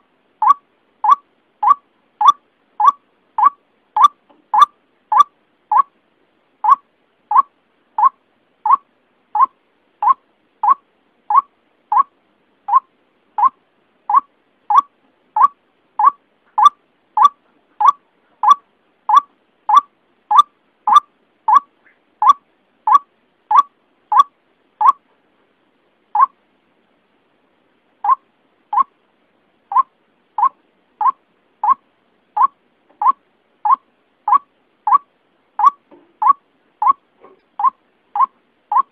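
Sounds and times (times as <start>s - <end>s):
waterhen call notes: 0.4s - 6.0s, 6.6s - 12.1s, 12.7s - 25.0s, 29.7s - 31.8s, 32.4s - 38.9s.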